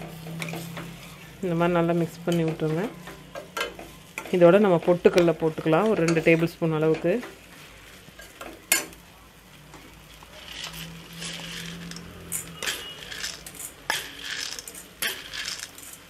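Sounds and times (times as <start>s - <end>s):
spatula scraping metal pan: 0.0s - 7.1s, 10.2s - 16.0s.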